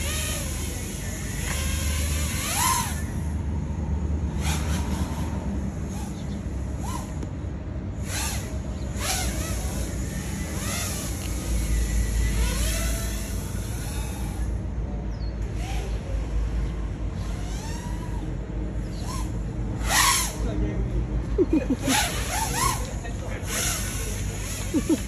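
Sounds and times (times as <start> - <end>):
drone motors whining: 0.0 - 14.7, 15.3 - 20.5, 21.2 - 25.0.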